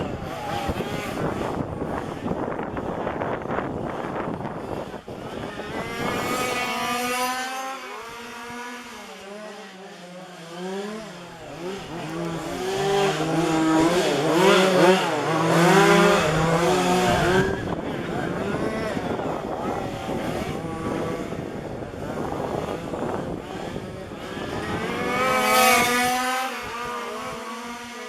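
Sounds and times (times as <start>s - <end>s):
small two-stroke engines revving: 0.0s - 28.0s.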